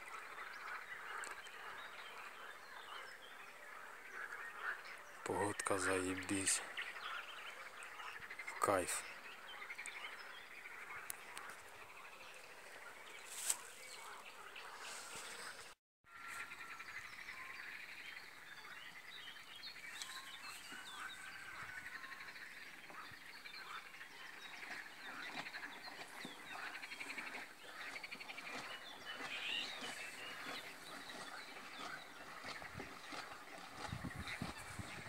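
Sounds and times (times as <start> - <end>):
birds chirping: 0.0 - 35.0
frogs croaking: 0.0 - 35.0.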